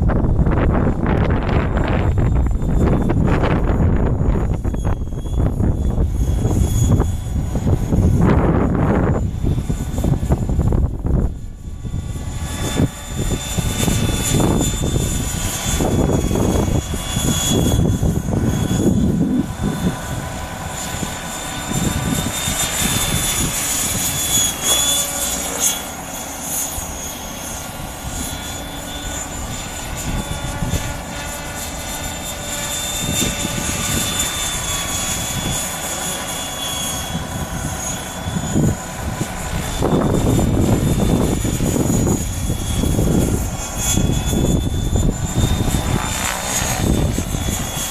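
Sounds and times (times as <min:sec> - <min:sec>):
rc helicopter motor whine: 0:00.0 - 0:47.9
rotor drone: 0:00.0 - 0:47.9
wind rumble on microphone: 0:00.0 - 0:47.9.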